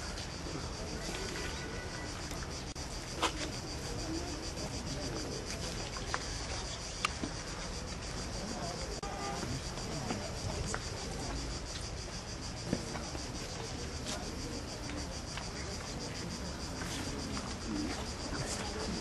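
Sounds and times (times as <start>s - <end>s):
background noise: 0.0s - 19.0s
insects chirring: 0.0s - 19.0s.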